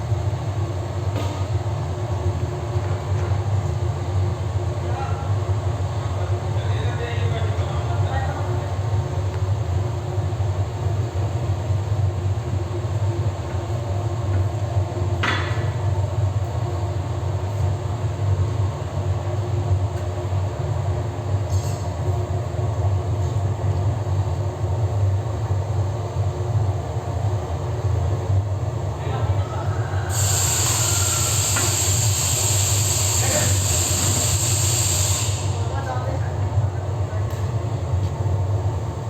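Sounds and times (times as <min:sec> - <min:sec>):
gas burner roaring: 0:00.0 - 0:39.0.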